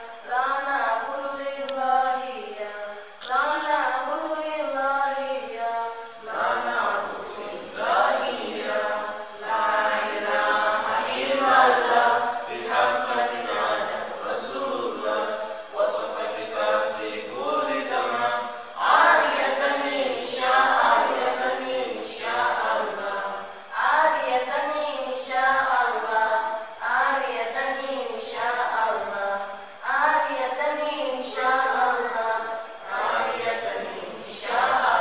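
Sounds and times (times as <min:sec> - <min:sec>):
group singing unaccompanied: 0:00.0 - 0:35.0.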